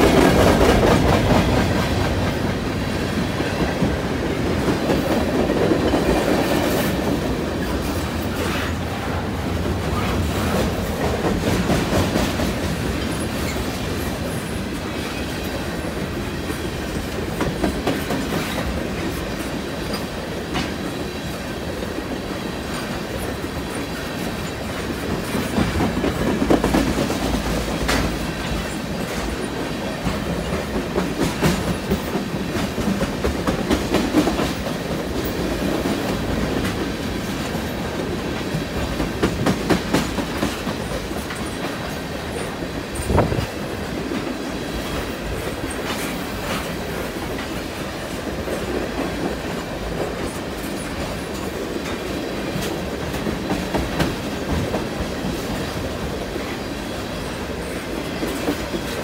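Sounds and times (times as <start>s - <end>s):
freight train rolling past: 0.0s - 59.0s
loud train clunk: 0.0s - 59.0s.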